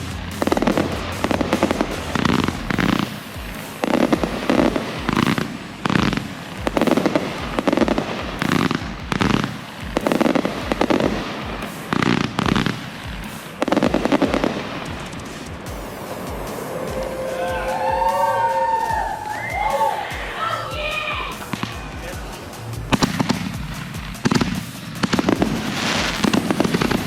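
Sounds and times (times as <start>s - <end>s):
fireworks exploding: 0.0s - 27.0s.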